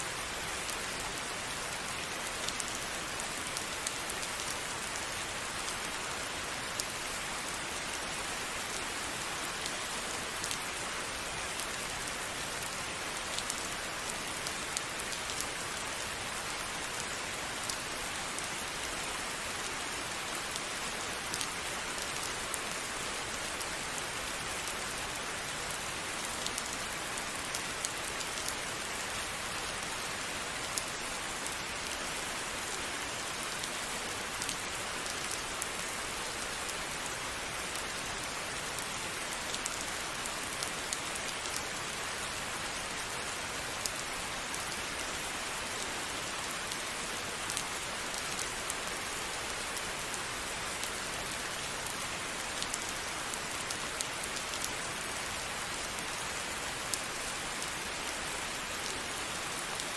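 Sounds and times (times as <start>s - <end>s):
steady rain hiss: 0.0s - 59.9s
raindrops ticking on a surface: 0.1s - 59.9s.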